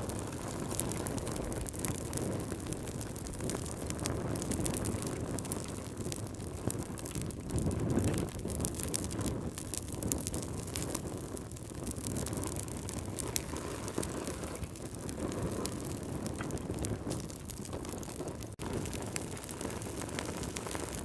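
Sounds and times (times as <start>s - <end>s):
flames roaring low: 0.0s - 21.0s
wood fire crackling: 0.0s - 21.0s.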